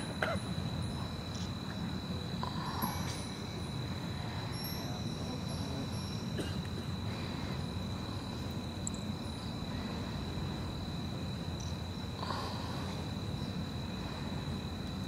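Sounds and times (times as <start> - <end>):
crickets singing: 0.0 - 15.0
low background rumble: 0.0 - 15.0.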